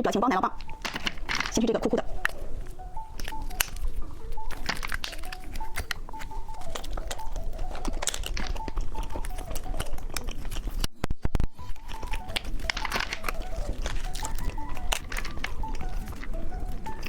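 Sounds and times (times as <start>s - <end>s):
faint simple melody music: 0.0s - 17.0s
chewing and biting snack: 0.6s - 17.0s
wet mouth noises: 0.6s - 17.0s.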